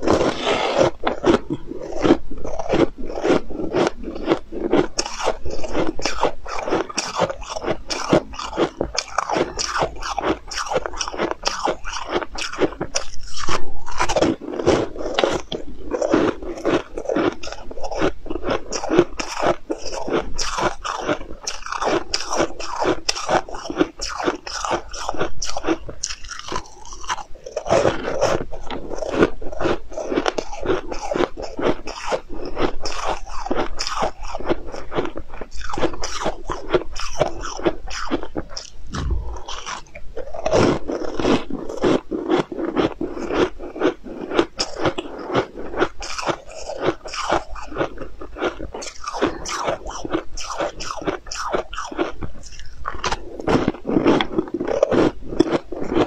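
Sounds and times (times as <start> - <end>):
person chewing crunchy snack: 0.0 - 56.0.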